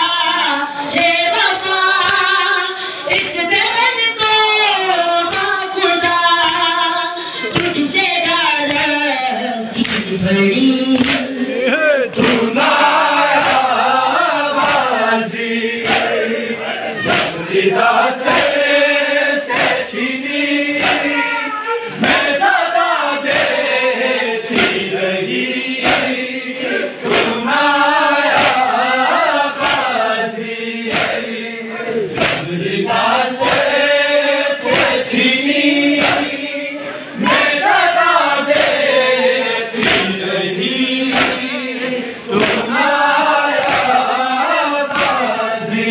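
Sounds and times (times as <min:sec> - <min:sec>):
group of voices chanting a lament: 0:00.0 - 0:45.9.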